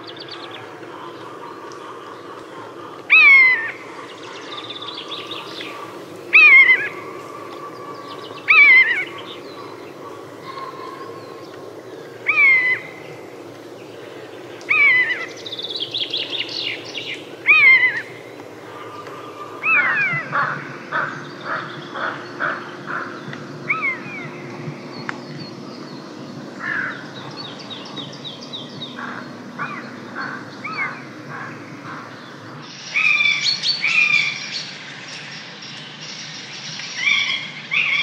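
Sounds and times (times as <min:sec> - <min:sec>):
loud falling bird calls: 0:00.0 - 0:34.5
quiet bird chirping: 0:00.0 - 0:38.0.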